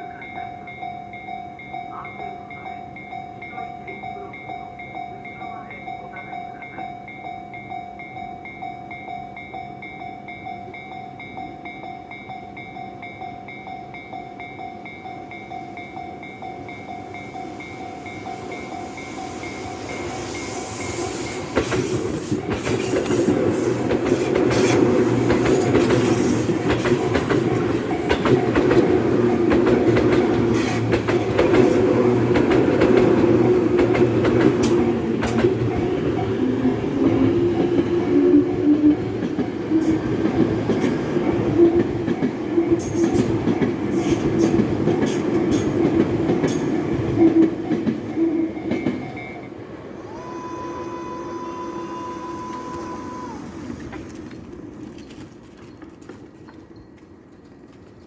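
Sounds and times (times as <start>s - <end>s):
level-crossing alarm clanging: 0.0s - 50.9s
electric train passing: 0.0s - 57.3s
train wheels clacking on rails: 1.9s - 58.0s.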